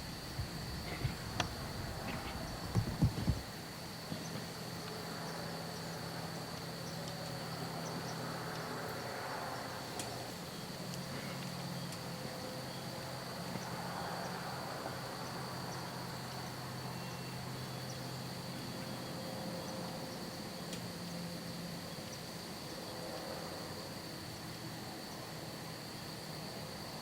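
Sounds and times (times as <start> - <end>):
distant engine hum: 0.0 - 26.8
high-pitched insect-like whine: 0.0 - 27.0.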